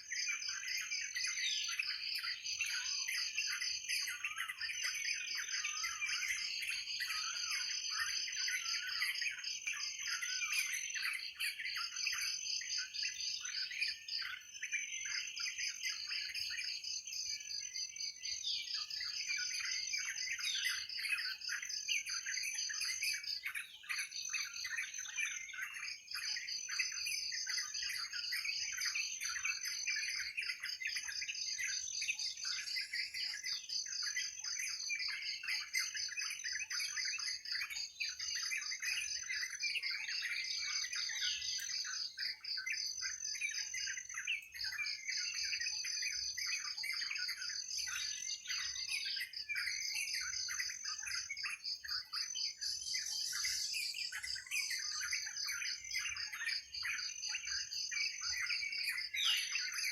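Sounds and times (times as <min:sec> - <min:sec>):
many birds chirping and calling: 0:00.0 - 0:59.9.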